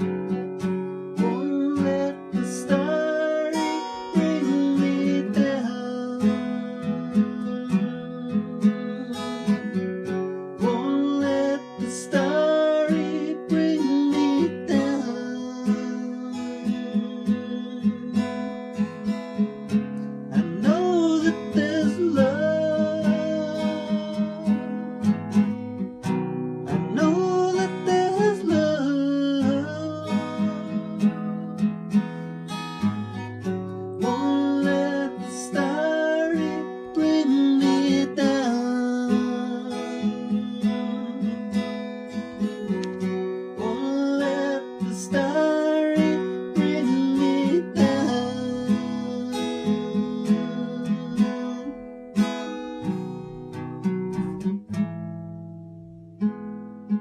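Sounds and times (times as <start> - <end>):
acoustic guitar strumming: 0.0 - 57.0
person singing: 1.2 - 9.8, 10.5 - 19.3, 20.3 - 25.1, 26.4 - 31.8, 33.0 - 52.0.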